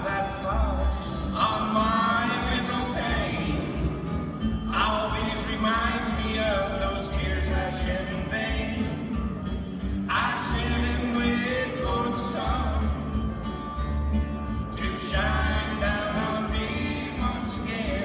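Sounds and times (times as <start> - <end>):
bluegrass string band playing: 0.0 - 18.0.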